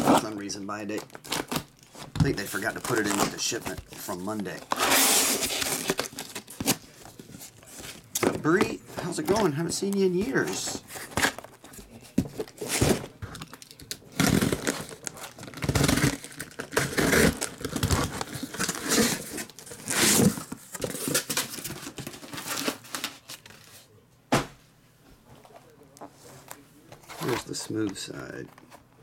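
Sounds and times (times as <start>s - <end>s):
cardboard scraping: 0.0s - 13.5s, 14.1s - 23.8s, 26.3s - 28.8s
plastic wrap crinkling: 0.0s - 23.8s.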